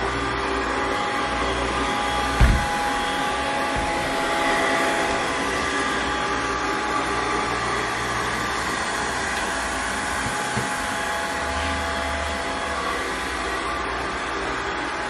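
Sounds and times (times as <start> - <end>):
robot vacuum motor whine: 0.0 - 15.0.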